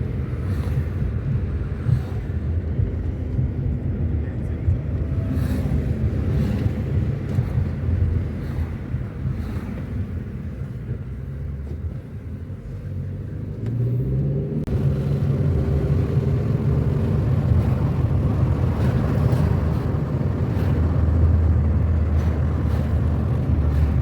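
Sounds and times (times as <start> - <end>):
car engine: 0.0 - 24.0
road rumble: 0.0 - 24.0.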